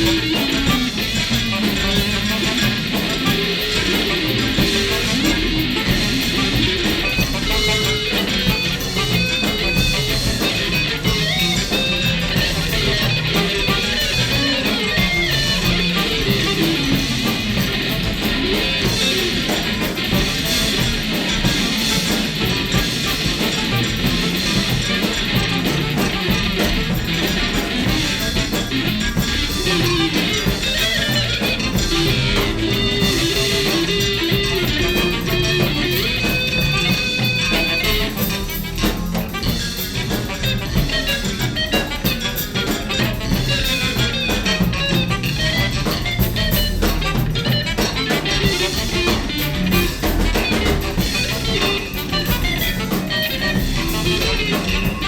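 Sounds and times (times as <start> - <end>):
electric guitar: 0.0 - 55.0
free jazz band playing: 0.0 - 55.0.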